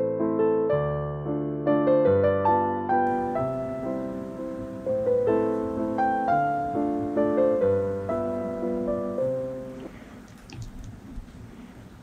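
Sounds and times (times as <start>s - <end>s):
gentle piano music: 0.0s - 10.1s.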